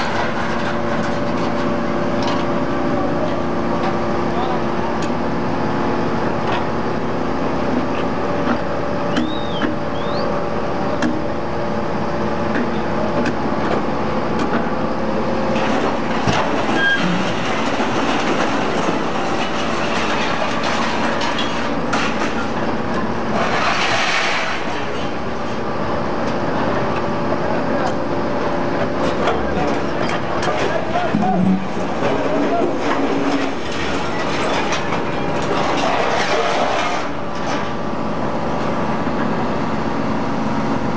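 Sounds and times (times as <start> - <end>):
hydraulic pump humming: 0.9 - 19.3, 24.6 - 40.9.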